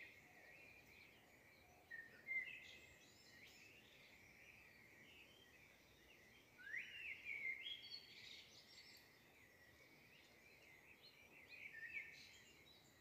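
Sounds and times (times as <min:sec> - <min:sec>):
faint bird chirps and whistles: 0:00.0 - 0:13.0.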